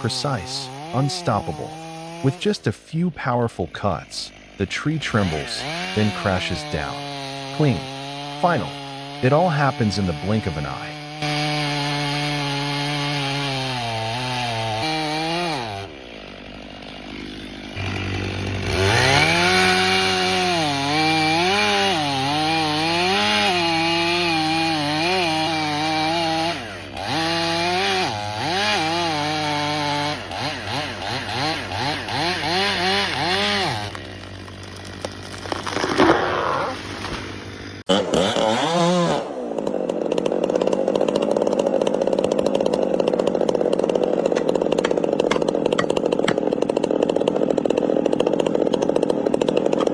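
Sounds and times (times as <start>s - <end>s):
chainsaw cutting wood: 0.0s - 49.9s
chainsaw throttle blips: 0.0s - 49.9s.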